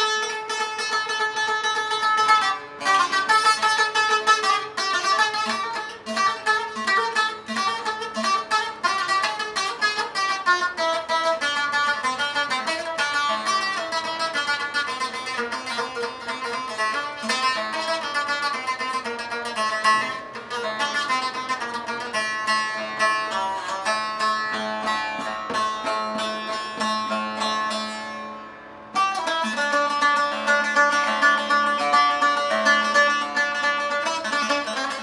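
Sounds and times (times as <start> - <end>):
plucked lute notes: 0.0 - 35.0.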